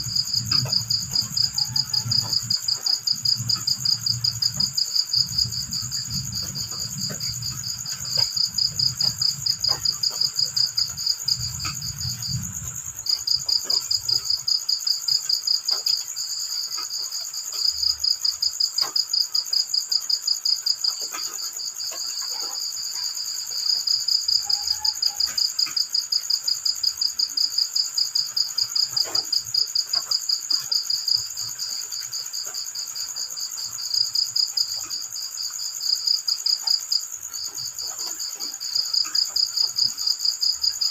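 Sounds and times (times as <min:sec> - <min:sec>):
crickets chirping in trills: 0:00.0 - 0:40.9.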